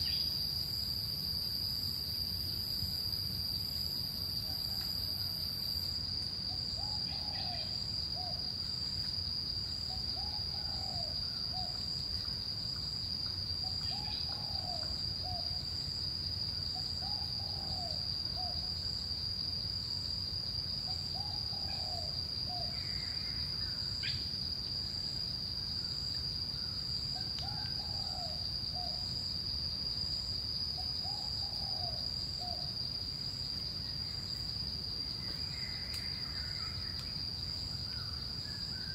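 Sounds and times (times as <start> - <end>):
insect drone: 0.0 - 38.9.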